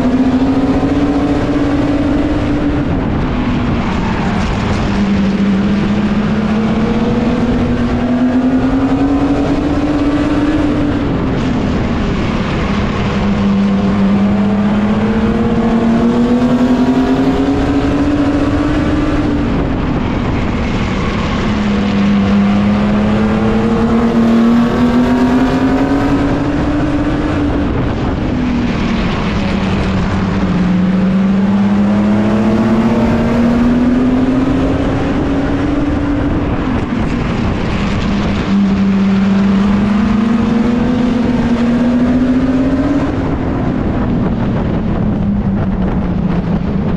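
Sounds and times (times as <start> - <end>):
racing truck engine accelerating: 0.0 - 46.9
wind and road noise: 0.0 - 46.9.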